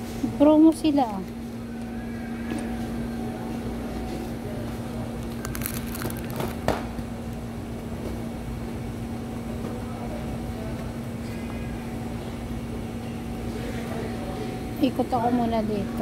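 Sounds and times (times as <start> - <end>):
steady hum and rumble: 0.0 - 16.0.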